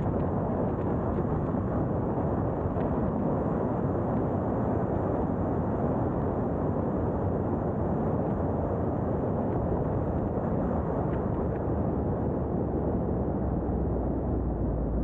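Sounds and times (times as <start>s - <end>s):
wind rushing on microphone: 0.0s - 15.0s.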